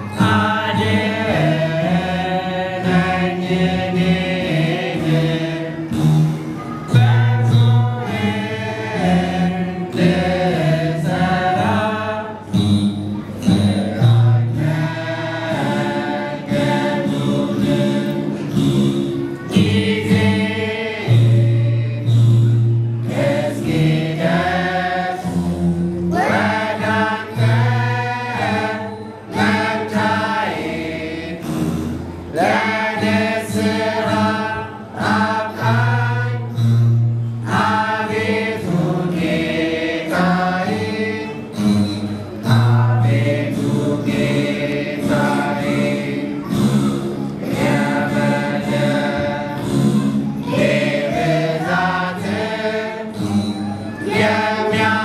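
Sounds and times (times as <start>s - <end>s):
men chanting a hymn: 0.0s - 12.6s, 13.5s - 18.7s, 19.4s - 22.3s, 23.0s - 31.6s, 32.3s - 36.7s, 37.4s - 41.8s, 42.4s - 55.0s.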